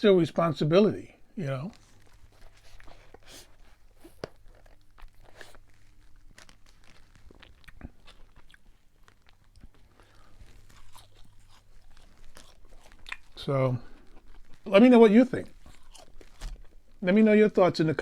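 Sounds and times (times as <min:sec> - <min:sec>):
chewing crispy food: 0:01.4 - 0:17.4.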